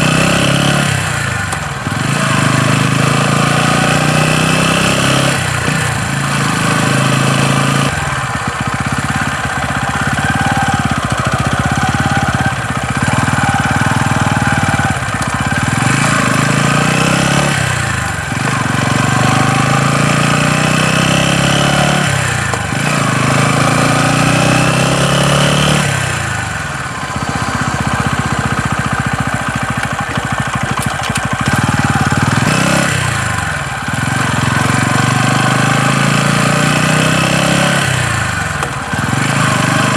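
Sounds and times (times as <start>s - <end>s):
motorcycle engine revving: 0.0s - 39.9s
engine knocking noise: 5.3s - 24.5s, 25.5s - 39.9s.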